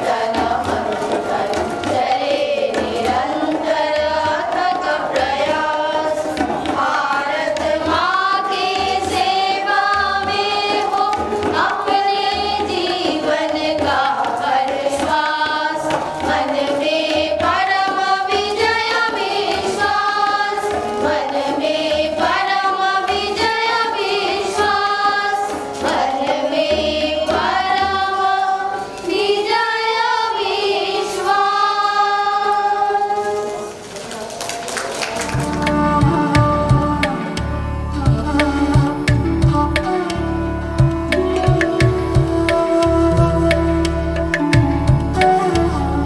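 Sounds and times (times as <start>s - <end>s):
women singing in unison: 0.0s - 34.5s, 35.3s - 46.0s.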